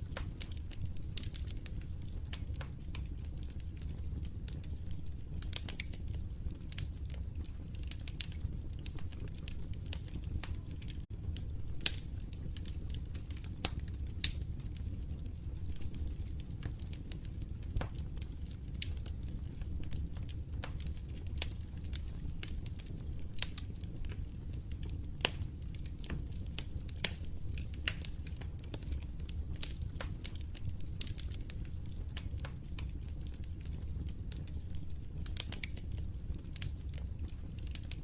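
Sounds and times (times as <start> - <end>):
log fire crackling and popping: 0.0 - 38.0.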